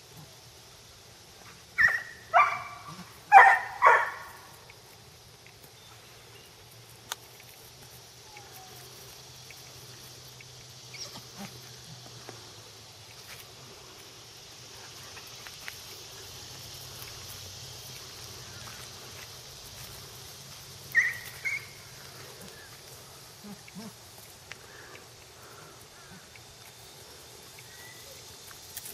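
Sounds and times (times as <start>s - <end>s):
high hiss: 0.0s - 28.9s.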